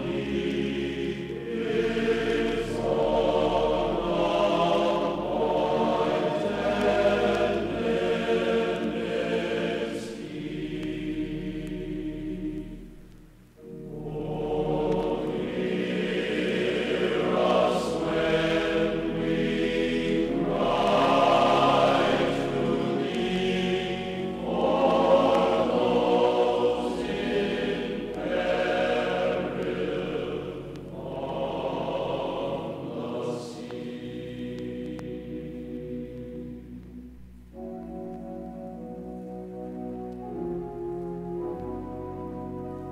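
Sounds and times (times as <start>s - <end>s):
choir singing held chords: 0.0s - 42.9s.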